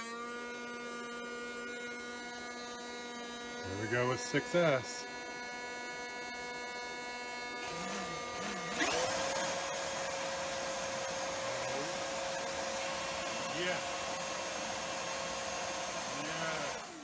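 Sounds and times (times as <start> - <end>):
electrical hum: 0.0 - 17.0
high motor whine: 0.0 - 17.0.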